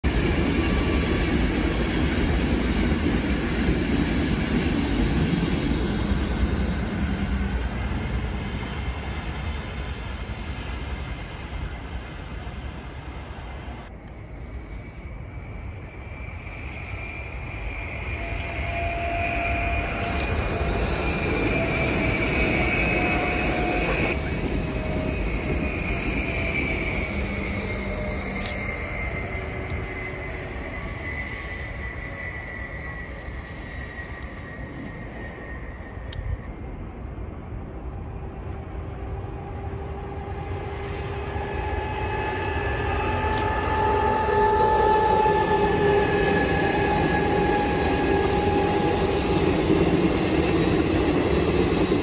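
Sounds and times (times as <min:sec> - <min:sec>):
approaching train with high whine: 0:00.0 - 0:52.0
train rumbling on rails: 0:00.0 - 0:52.0.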